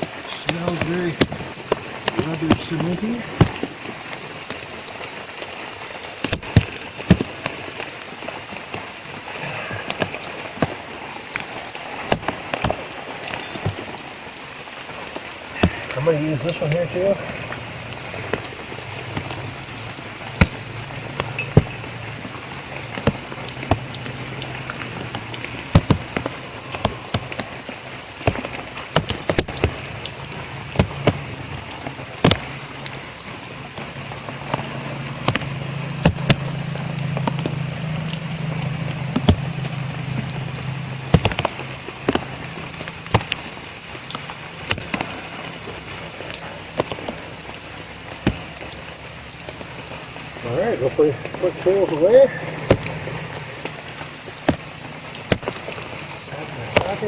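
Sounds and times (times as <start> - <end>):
rain falling: 0.0 - 57.0
raindrops tapping close by: 0.0 - 57.0.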